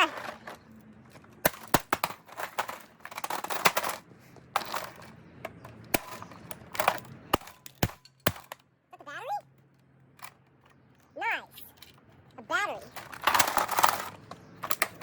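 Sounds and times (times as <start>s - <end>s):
plastic parts clicking and knocking: 0.0s - 8.8s, 9.4s - 15.0s.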